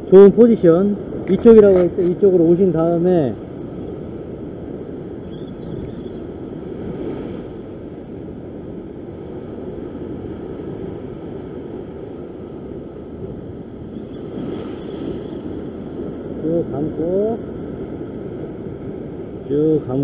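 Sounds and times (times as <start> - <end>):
surf against rocks: 0.0 - 20.0
wind buffeting microphone: 0.0 - 20.0.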